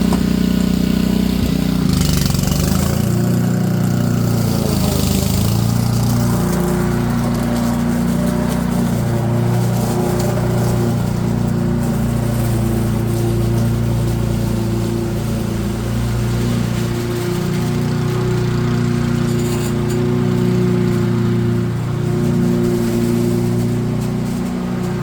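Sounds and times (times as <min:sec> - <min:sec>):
small petrol engine running: 0:00.0 - 0:25.0.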